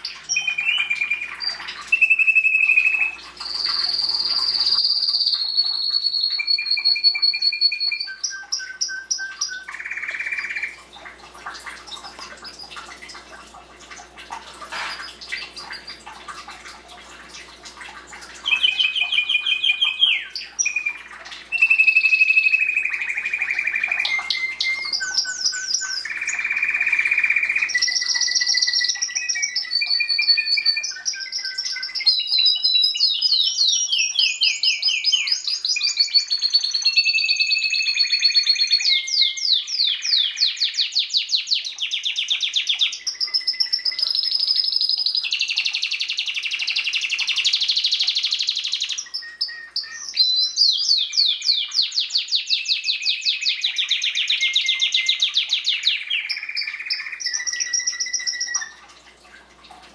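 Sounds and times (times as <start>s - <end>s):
canary singing trills: 0.0s - 13.2s, 14.7s - 16.1s, 18.4s - 58.8s.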